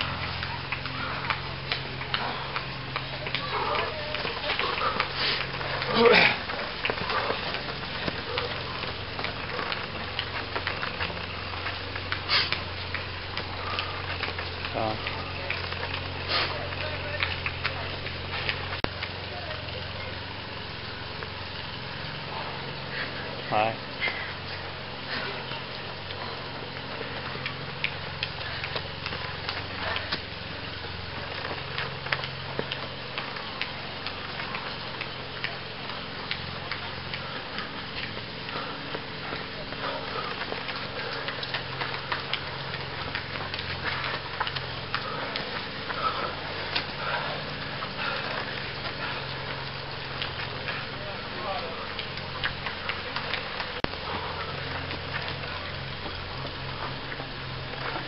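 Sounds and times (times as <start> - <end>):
crackly hiss: 0.0 - 58.0
footsteps on dirt trail: 0.0 - 58.0
steady low hum: 0.0 - 58.0.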